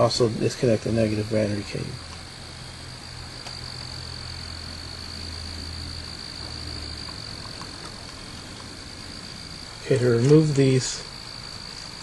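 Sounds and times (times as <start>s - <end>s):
high-pitched whine: 0.0s - 12.0s
low hum: 0.0s - 12.0s.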